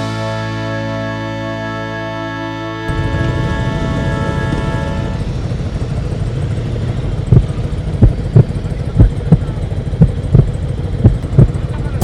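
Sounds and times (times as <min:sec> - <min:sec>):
vehicle engine rumbling: 0:02.3 - 0:12.0.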